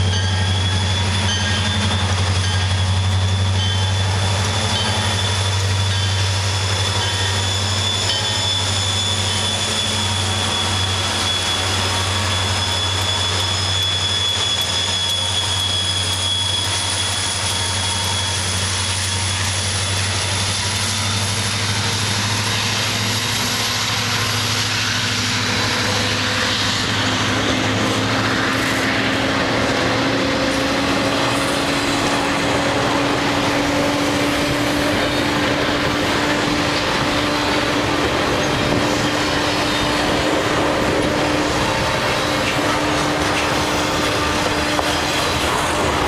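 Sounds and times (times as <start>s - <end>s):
locomotive engine drone: 0.0s - 46.0s
steel wheels clattering on rails: 0.0s - 46.0s.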